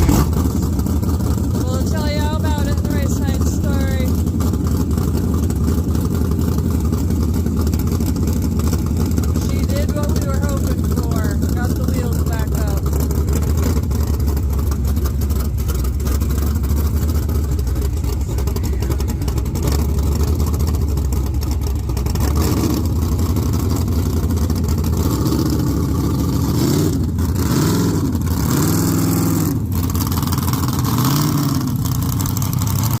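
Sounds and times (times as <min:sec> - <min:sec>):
engine idling and revving: 0:00.0 - 0:33.0.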